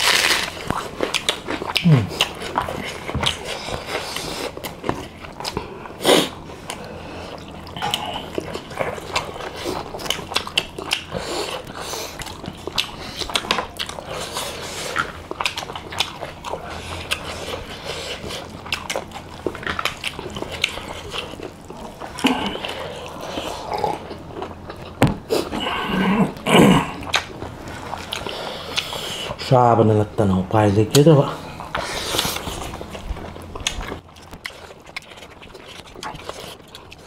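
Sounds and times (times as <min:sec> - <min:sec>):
wet chewing: 0:00.0 - 0:37.0.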